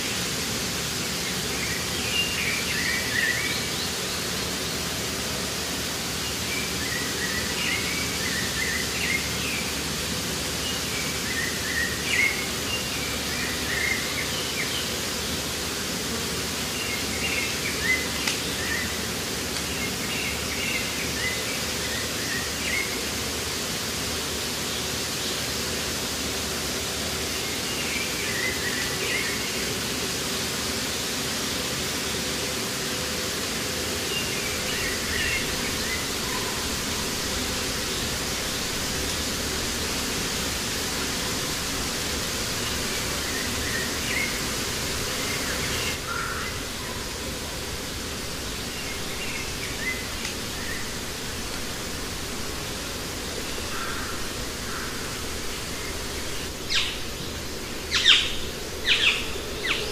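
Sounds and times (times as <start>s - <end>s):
even rushing hiss: 0.0s - 59.9s.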